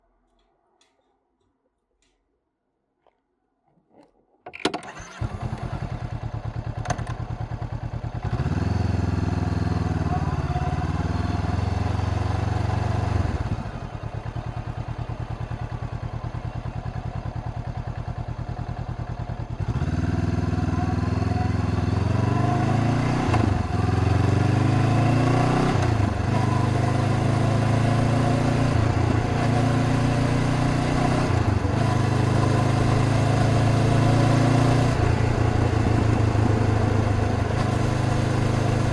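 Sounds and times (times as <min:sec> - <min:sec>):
motorcycle engine starting: 0:04.6 - 0:38.9
motorcycle engine revving: 0:04.9 - 0:38.9.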